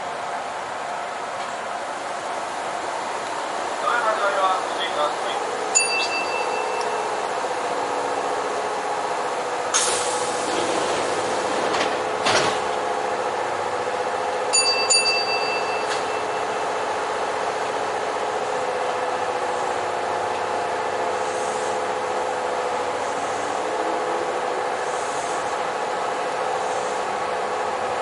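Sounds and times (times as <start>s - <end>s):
electric train hum: 0.0s - 28.0s.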